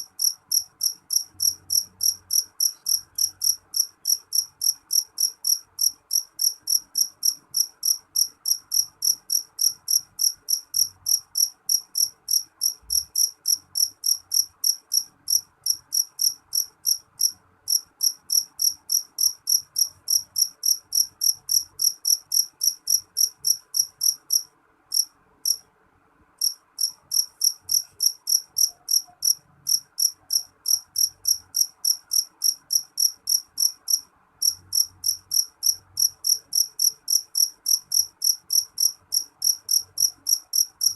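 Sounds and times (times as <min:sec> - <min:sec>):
cricket chirping: 0:00.0 - 0:25.6, 0:26.4 - 0:40.9.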